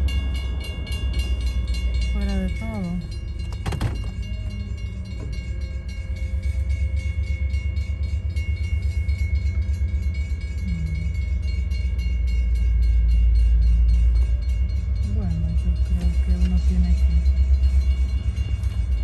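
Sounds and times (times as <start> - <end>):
crossing warning bell ringing: 0.0 - 19.0.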